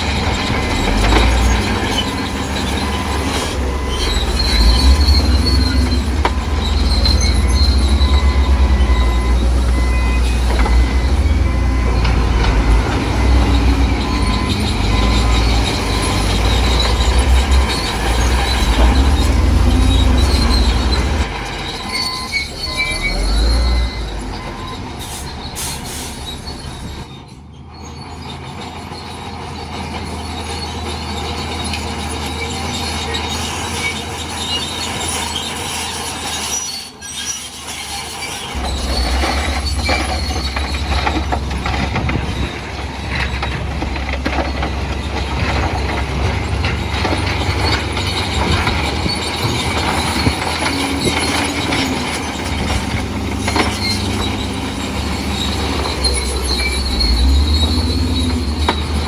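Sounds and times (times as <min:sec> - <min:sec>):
bulldozer diesel engine under load: 0:00.0 - 0:59.0
steel tracks squealing and clanking: 0:00.0 - 0:59.0.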